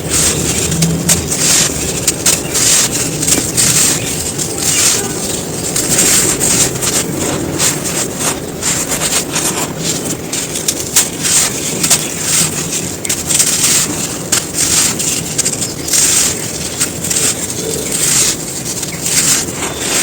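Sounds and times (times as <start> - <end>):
sand clumps crumbling: 0.0 - 20.0.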